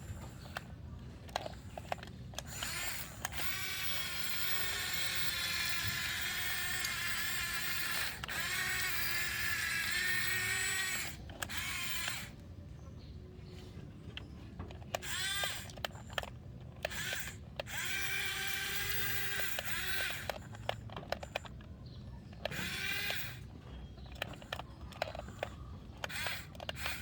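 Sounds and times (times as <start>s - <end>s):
small electric motor whining: 0.0s - 12.4s, 14.7s - 21.7s, 22.3s - 27.0s.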